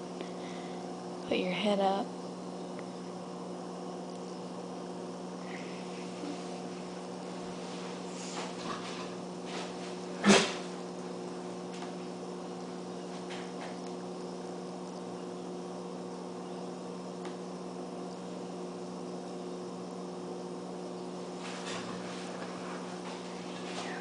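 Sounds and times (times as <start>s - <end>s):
low appliance hum with hiss: 0.0s - 24.0s.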